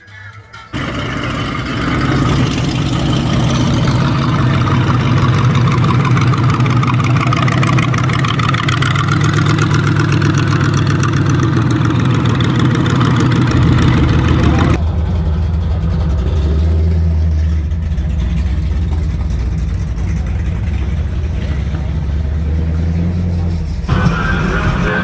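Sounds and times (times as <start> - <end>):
car engine idling: 0.7 - 25.0.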